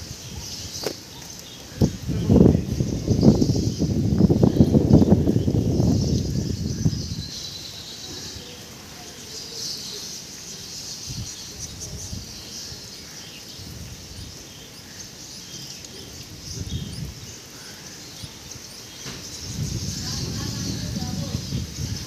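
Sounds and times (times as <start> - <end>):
wind gusting on microphone: 0.0 - 9.6, 10.2 - 22.0
rain falling: 0.0 - 22.0.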